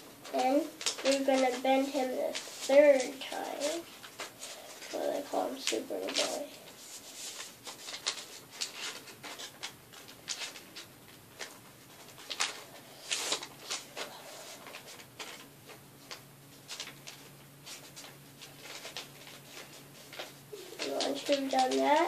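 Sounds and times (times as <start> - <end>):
paper rustling and creasing: 0.2 - 22.0.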